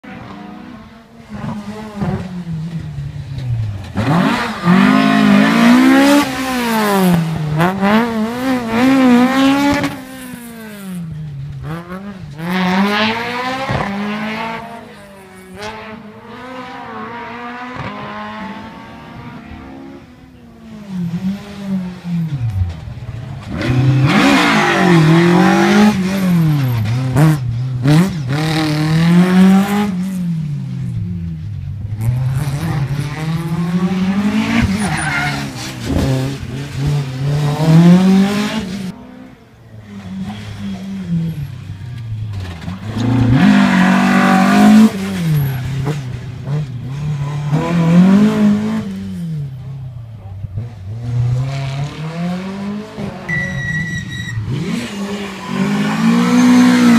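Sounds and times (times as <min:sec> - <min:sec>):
rally car engine revving: 0:00.0 - 0:56.9.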